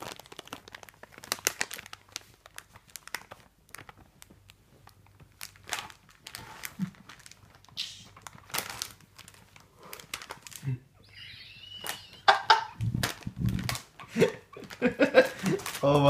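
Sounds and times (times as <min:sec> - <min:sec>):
plastic packet crinkling: 0:00.0 - 0:16.0.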